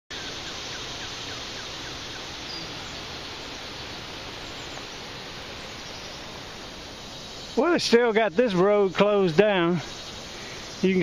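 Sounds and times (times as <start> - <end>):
creek water rushing: 0.1 - 11.0
faint bird chirps: 0.1 - 11.0.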